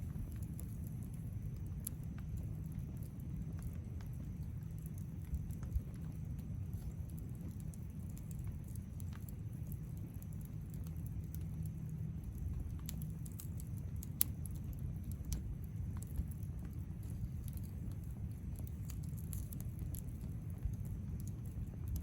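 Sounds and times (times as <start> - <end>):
burning wood popping: 0.0 - 22.0
campfire crackling: 0.0 - 22.0
low rumble of flames: 0.0 - 22.0.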